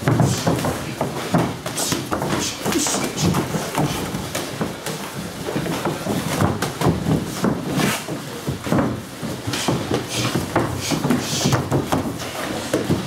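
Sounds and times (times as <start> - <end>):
boxing glove punches and kicks: 0.0 - 13.0.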